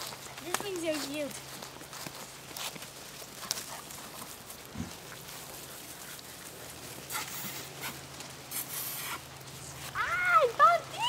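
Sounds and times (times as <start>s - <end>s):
puppies scuffling on grass: 0.0s - 11.0s.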